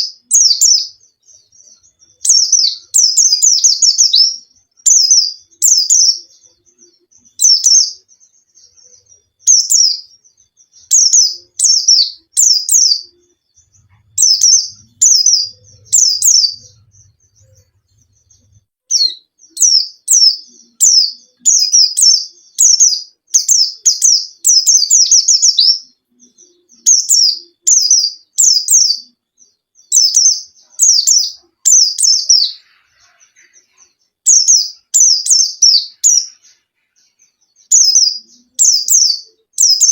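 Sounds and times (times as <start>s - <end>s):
bird singing high falling chirps: 0.0s - 39.9s.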